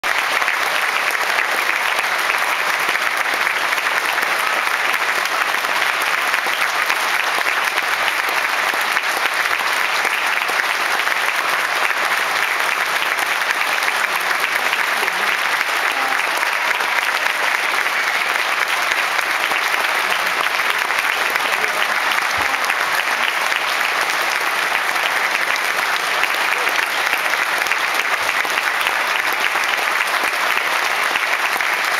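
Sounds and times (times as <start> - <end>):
audience applauding: 0.0 - 31.9.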